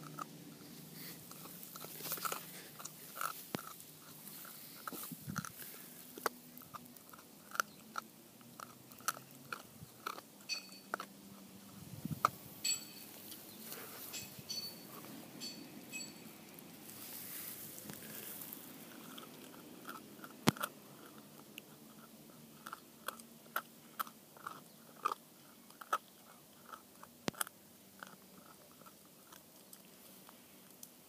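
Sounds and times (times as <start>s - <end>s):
puppy crunching on bone: 0.0s - 31.0s.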